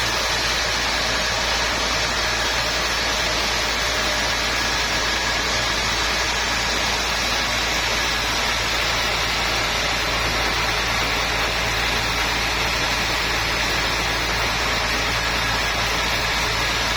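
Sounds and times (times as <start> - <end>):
sawmill machinery humming: 0.0 - 16.9.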